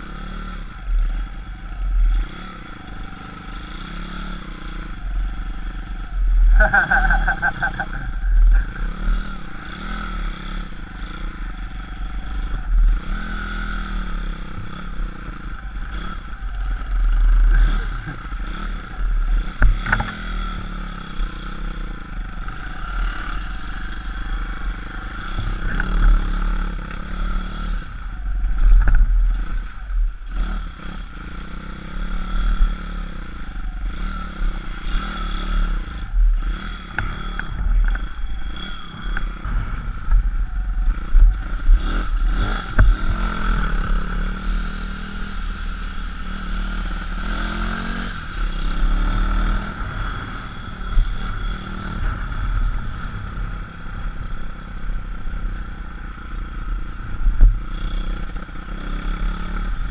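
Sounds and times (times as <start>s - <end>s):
small motorbike engine revving: 0.0s - 59.9s.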